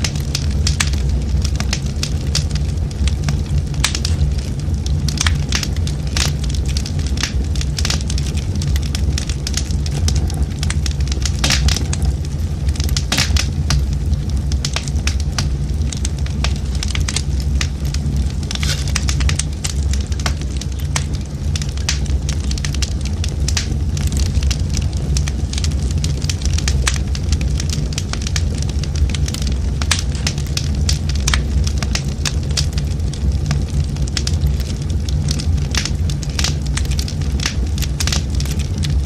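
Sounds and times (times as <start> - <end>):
fire crackling and popping: 0.0 - 39.0
low fire rumble: 0.0 - 39.0.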